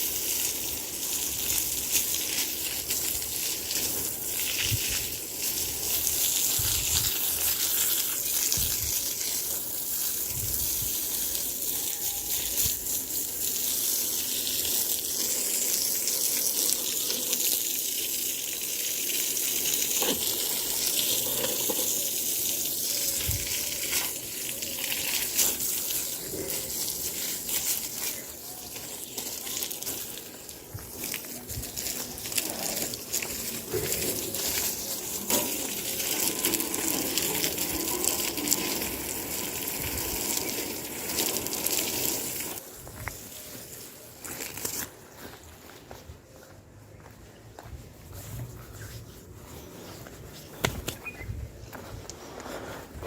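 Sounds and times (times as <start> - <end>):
water running hiss: 0.0 - 44.9.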